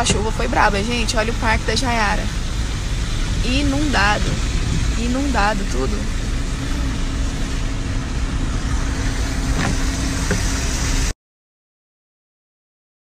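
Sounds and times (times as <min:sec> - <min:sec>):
wind buffeting microphone: 0:00.0 - 0:11.1
heavy rain: 0:00.0 - 0:11.2.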